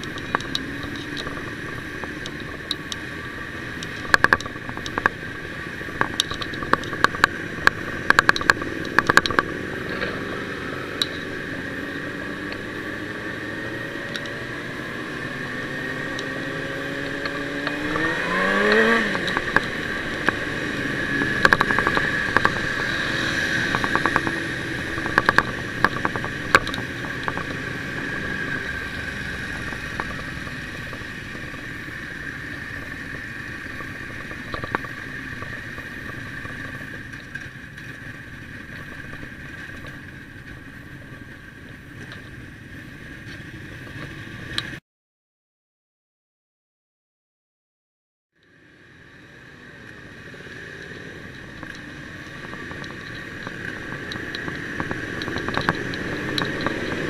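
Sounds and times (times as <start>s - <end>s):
motorcycle engine accelerating: 0.0s - 44.8s, 48.7s - 57.0s
steady whine: 0.0s - 44.8s, 48.4s - 57.0s.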